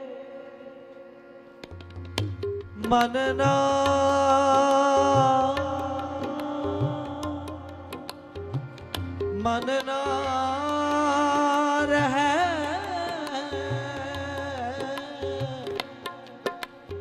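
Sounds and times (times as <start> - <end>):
man singing: 0.0 - 1.6, 2.8 - 17.0
harmonium: 0.0 - 17.0
tabla strokes: 1.6 - 17.0.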